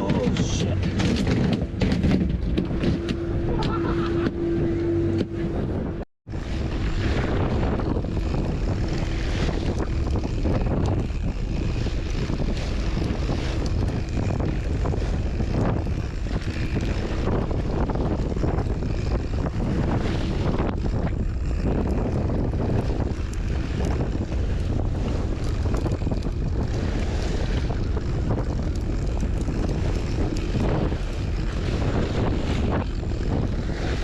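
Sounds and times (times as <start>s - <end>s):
boat engine: 0.0s - 34.0s
wind buffeting microphone: 0.0s - 34.0s.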